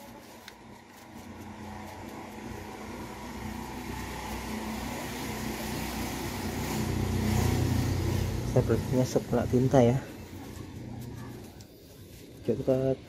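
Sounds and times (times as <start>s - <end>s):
vehicle engine rumbling: 0.0s - 12.5s.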